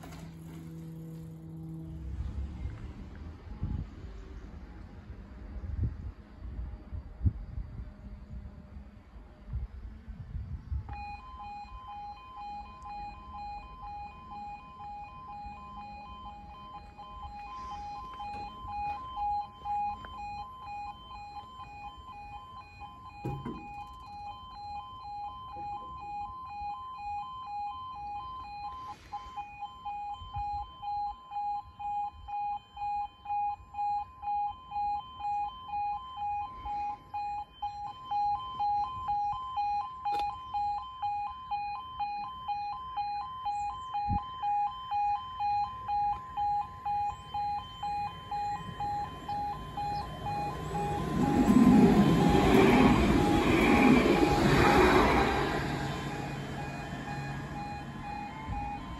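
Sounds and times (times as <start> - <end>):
two-tone level crossing alarm: 0.0 - 2.4, 10.9 - 58.9.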